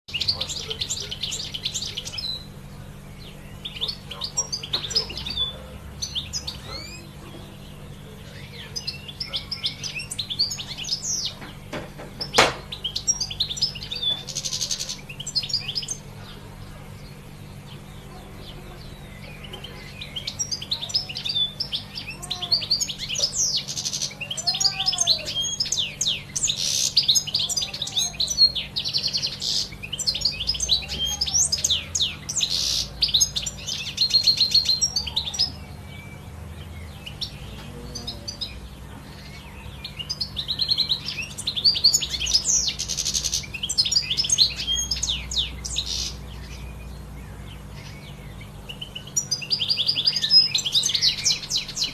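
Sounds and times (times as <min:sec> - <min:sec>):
songbirds chirping: 0:00.0 - 0:51.9
fainter lower bird calls: 0:00.1 - 0:51.9.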